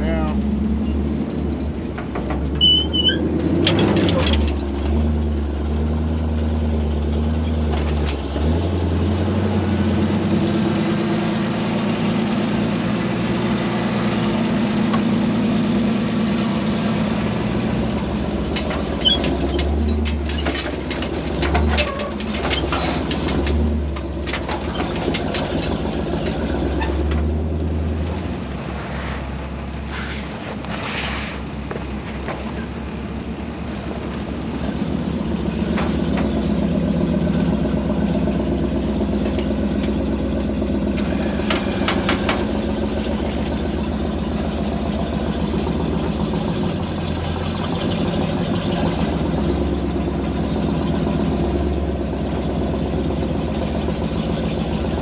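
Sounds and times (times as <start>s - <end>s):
vehicle engine running: 0.0s - 55.0s
vehicle rattling over bumps: 0.0s - 55.0s.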